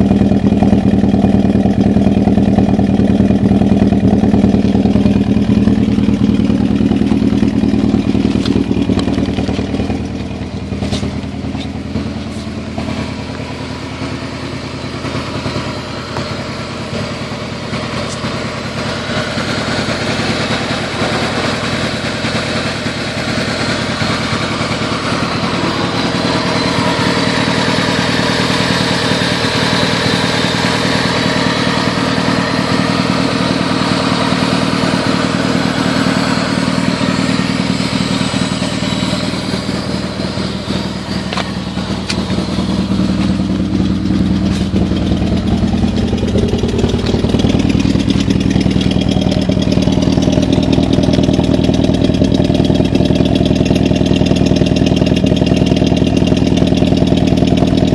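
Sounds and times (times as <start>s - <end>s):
car engine misfiring: 0.0s - 57.9s.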